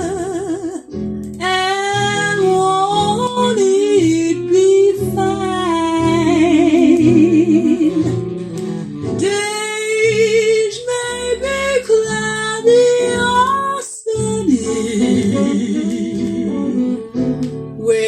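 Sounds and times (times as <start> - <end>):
woman singing jazz: 0.0 - 8.4, 9.2 - 18.0
instrumental accompaniment: 0.0 - 18.0.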